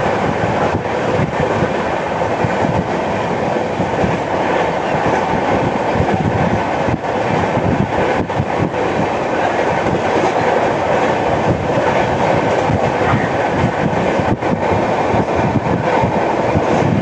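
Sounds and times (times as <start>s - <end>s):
train rumbling and rattling: 0.0s - 17.0s.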